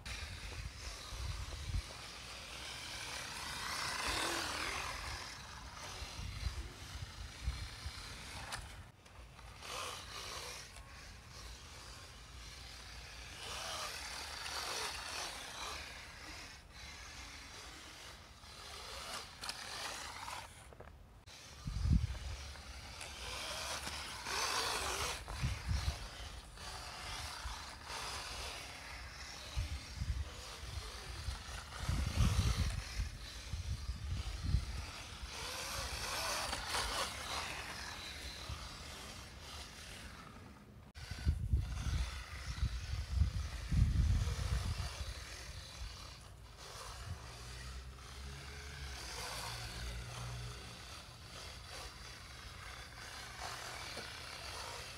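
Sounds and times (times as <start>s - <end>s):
electric motor whirring: 0.0s - 54.9s.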